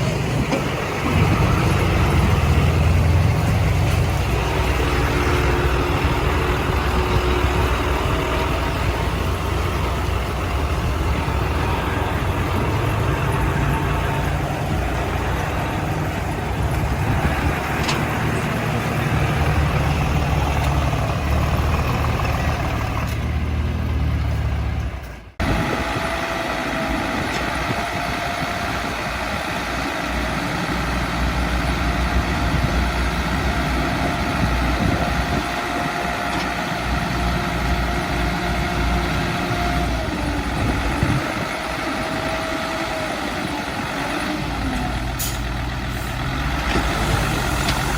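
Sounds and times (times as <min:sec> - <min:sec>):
heavy diesel engines running: 0:00.0 - 0:47.9.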